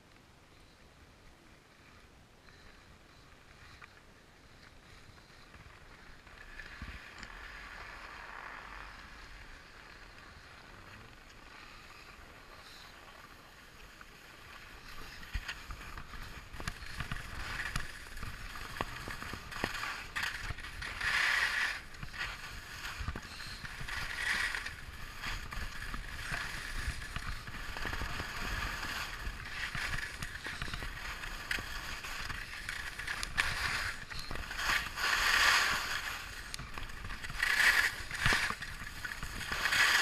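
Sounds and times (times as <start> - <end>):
skis scraping over snow: 1.7 - 40.0.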